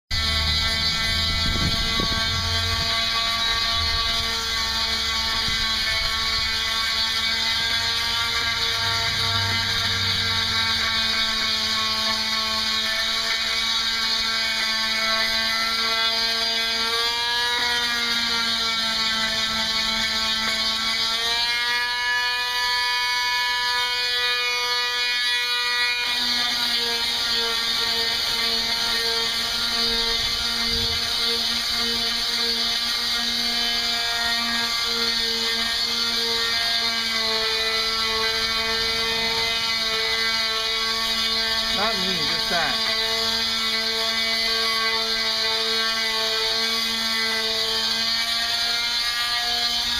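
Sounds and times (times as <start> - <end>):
orbital sander motor whine: 0.1 - 49.9.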